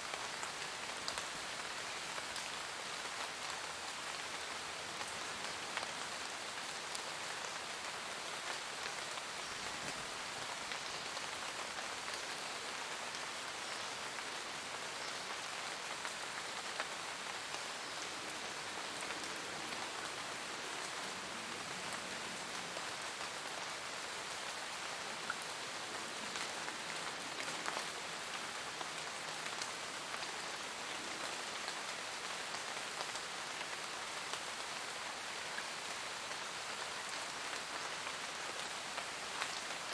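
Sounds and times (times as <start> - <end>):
raindrops ticking on leaves: 0.0 - 39.9
steady rain: 0.0 - 39.9.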